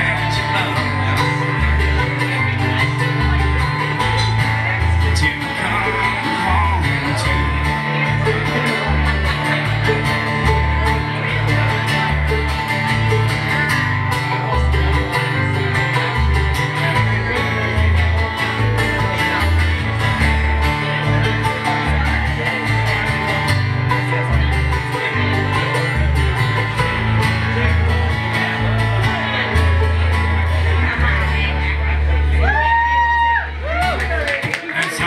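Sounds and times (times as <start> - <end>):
banjo picking: 0.0 - 35.0
bass notes: 0.0 - 35.0
strummed acoustic guitar: 0.0 - 35.0.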